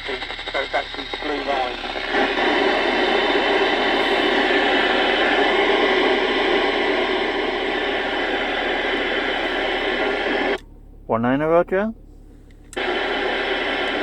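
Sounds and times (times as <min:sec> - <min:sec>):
radio static hiss: 0:00.0 - 0:11.8, 0:12.8 - 0:14.0.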